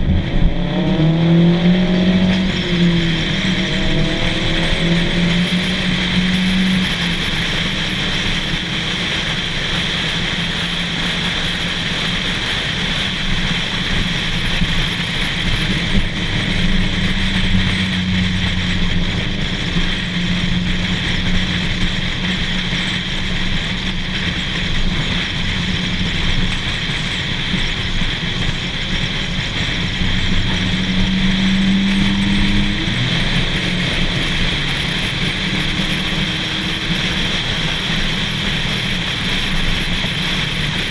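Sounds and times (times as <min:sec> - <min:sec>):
car engine droning: 0:00.0 - 0:40.9
wind noise on microphone: 0:00.0 - 0:40.9.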